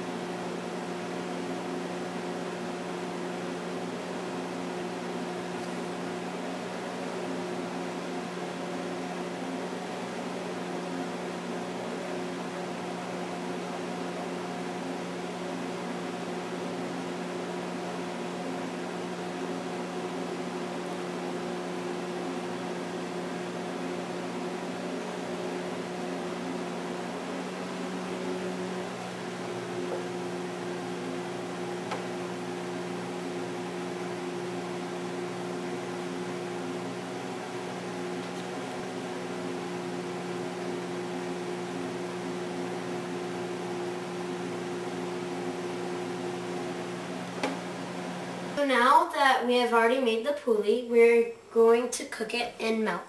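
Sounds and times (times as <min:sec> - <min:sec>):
mechanical hum with low tones: 0:00.0 - 0:53.0.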